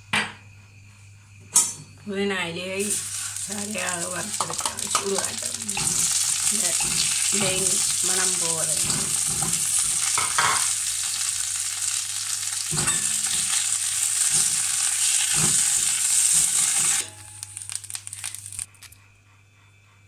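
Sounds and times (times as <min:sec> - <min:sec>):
leaves sizzling in oil: 0:02.7 - 0:19.0.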